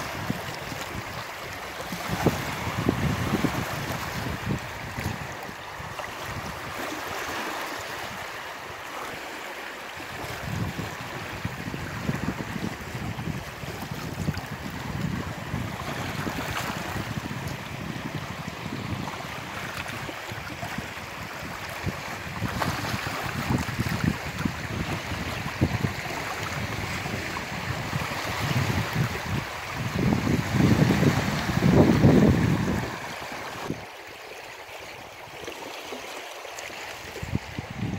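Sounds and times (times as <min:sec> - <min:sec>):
wind buffeting microphone: 0:00.0 - 0:07.2, 0:10.1 - 0:33.9, 0:37.0 - 0:37.9
small waves lapping on rocks: 0:00.0 - 0:37.9.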